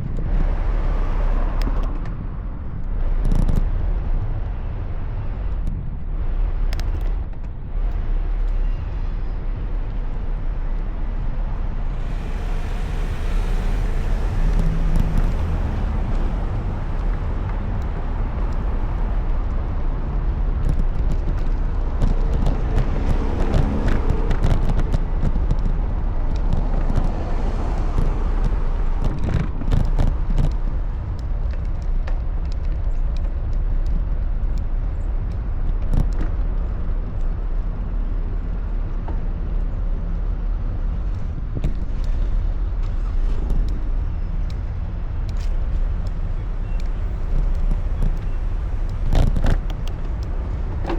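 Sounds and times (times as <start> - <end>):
cars passing: 0.0 - 5.6, 6.2 - 50.9
steady low rumble: 0.0 - 50.9.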